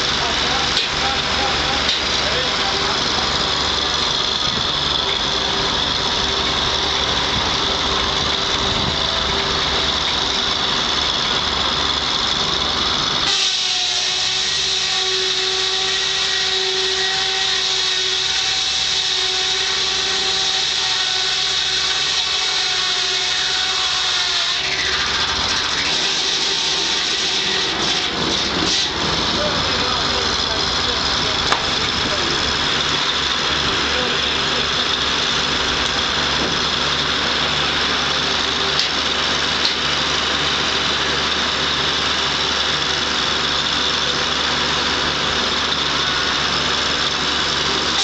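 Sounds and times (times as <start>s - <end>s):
circular sawmill running: 0.0s - 48.0s.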